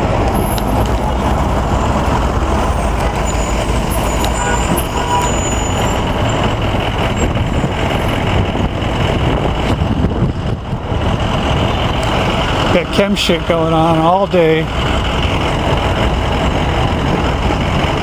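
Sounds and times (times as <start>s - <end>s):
street traffic: 0.0s - 18.0s
truck engine rumbling: 0.0s - 18.0s.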